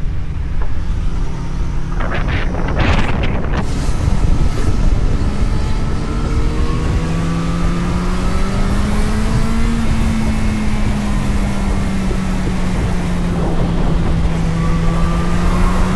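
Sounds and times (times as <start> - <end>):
vehicle engine accelerating: 0.0 - 15.9
wind and road noise: 0.0 - 15.9.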